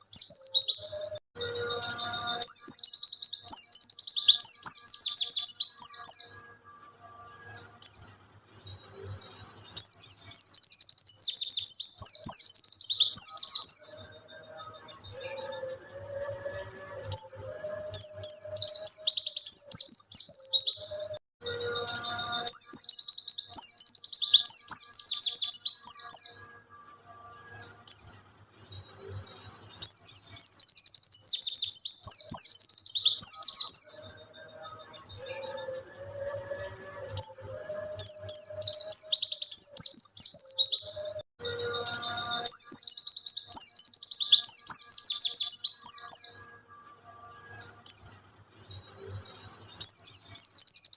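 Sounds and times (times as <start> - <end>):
bird twittering song: 0.0 - 50.9.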